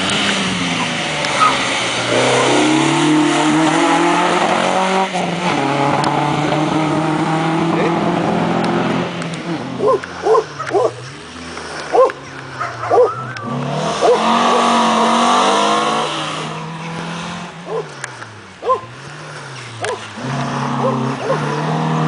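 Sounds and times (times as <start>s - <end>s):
rally car engine accelerating: 0.0s - 22.0s.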